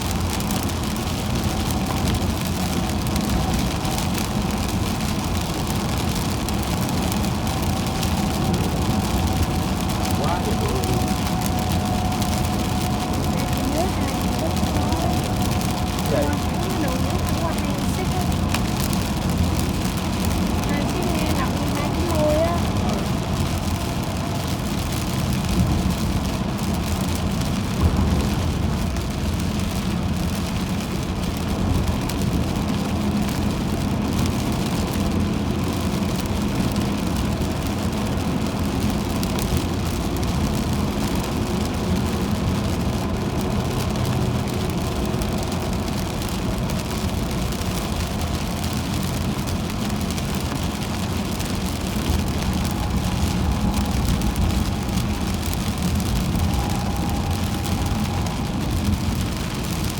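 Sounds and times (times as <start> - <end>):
rain hitting a car: 0.0 - 59.9
tyre and road noise: 0.0 - 59.9.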